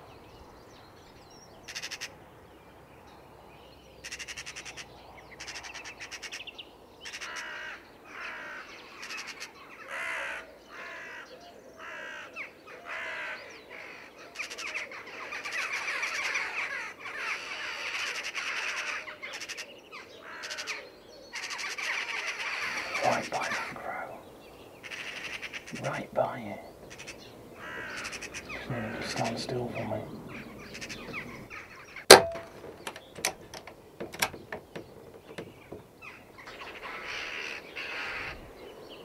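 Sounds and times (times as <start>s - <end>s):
magpies rattling chatter: 1.6s - 2.1s, 4.0s - 38.6s
crows cawing: 1.6s - 2.2s, 4.0s - 38.7s.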